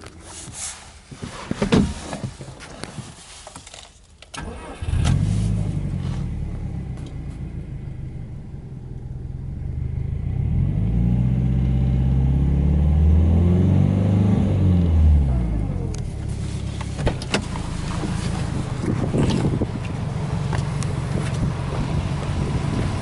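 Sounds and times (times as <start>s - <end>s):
car engine idling and revving: 4.4s - 23.0s.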